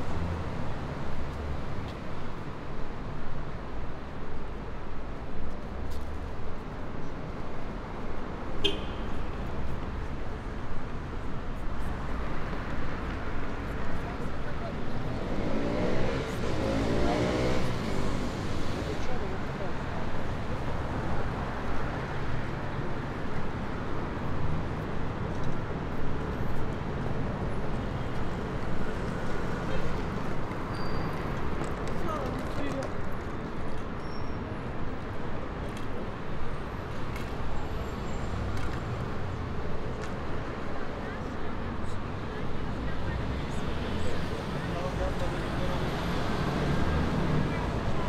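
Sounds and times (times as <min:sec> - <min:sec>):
city street traffic rush: 0:00.0 - 0:48.0
passing vehicles: 0:00.0 - 0:48.0.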